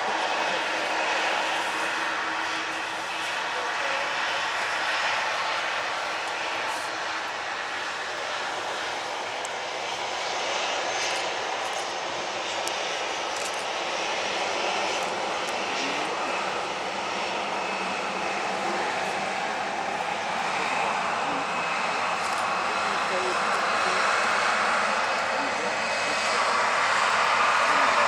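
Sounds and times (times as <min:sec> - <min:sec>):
airliner engines rushing: 0:00.0 - 0:28.0.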